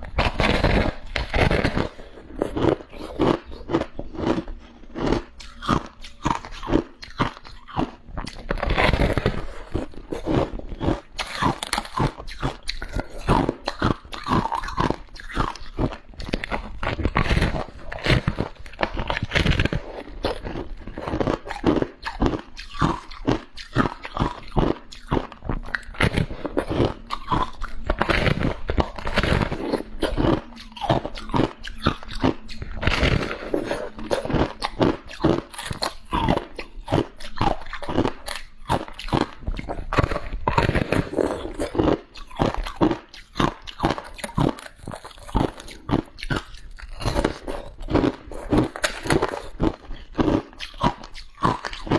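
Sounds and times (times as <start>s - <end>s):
chewing crunchy frost: 0.0s - 51.9s.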